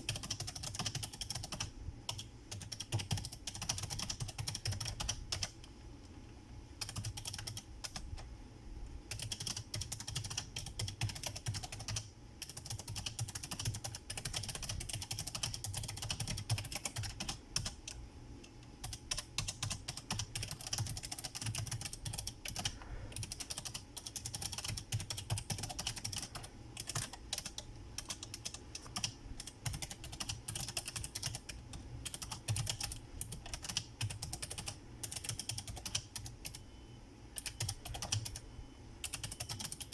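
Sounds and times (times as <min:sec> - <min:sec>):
keyboard typing: 0:00.0 - 0:05.7, 0:06.8 - 0:08.3, 0:09.1 - 0:18.0, 0:18.8 - 0:36.6, 0:37.4 - 0:39.9.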